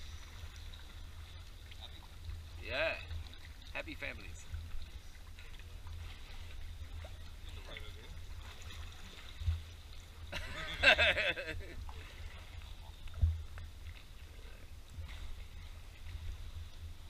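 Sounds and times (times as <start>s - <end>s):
muffled paddling rumble: 0.0s - 17.0s.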